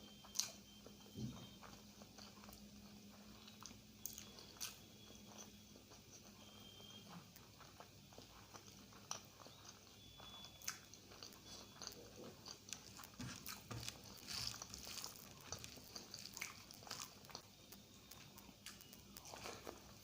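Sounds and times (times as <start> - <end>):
wet chewing and smacking: 0.0 - 20.0.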